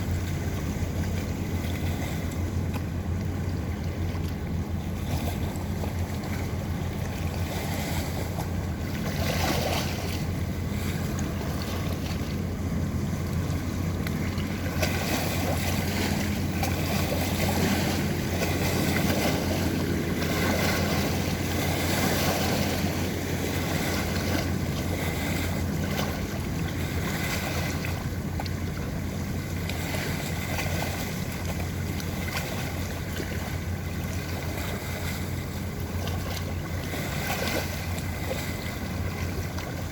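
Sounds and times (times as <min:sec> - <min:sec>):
boat engine droning: 0:00.0 - 0:39.9
rushing water: 0:00.0 - 0:39.9.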